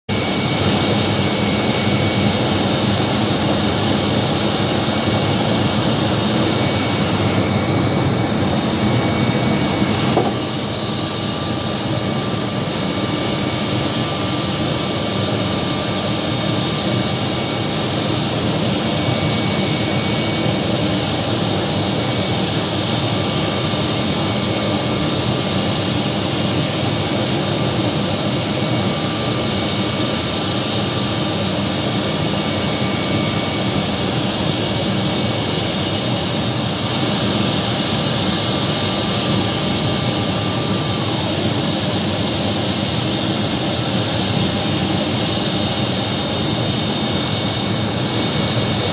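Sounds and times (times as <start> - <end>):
jet turbine roar with whine: 0.1 - 48.9.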